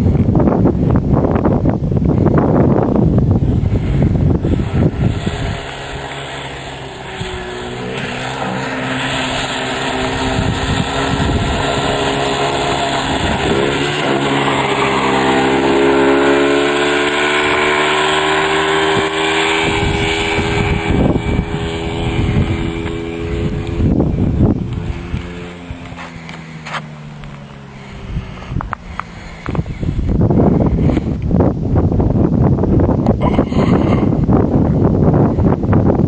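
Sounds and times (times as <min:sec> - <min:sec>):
quad engine running: 0:00.0 - 0:36.0
wind rumbling on microphone: 0:00.0 - 0:36.0.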